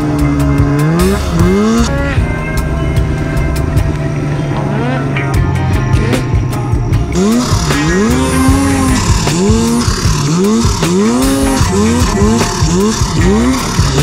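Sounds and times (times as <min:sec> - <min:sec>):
snowmobile engine revving: 0:00.0 - 0:06.5, 0:07.1 - 0:14.0.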